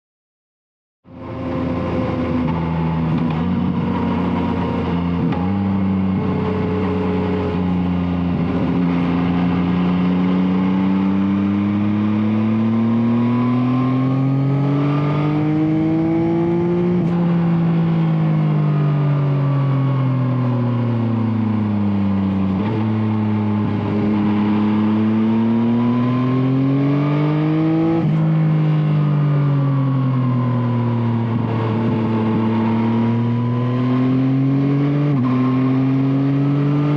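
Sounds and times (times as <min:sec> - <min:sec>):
motorcycle engine accelerating: 0:01.1 - 0:36.9.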